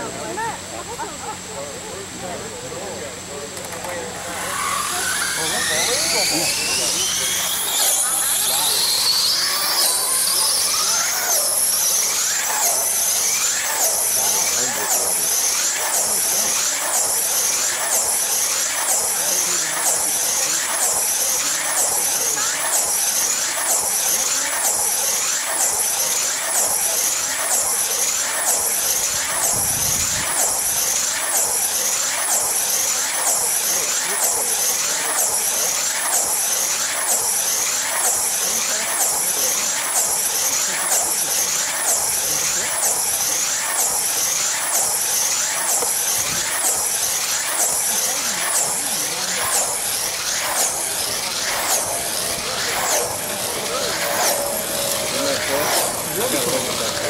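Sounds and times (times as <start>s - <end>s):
electric race car motor whine: 0.0s - 57.0s.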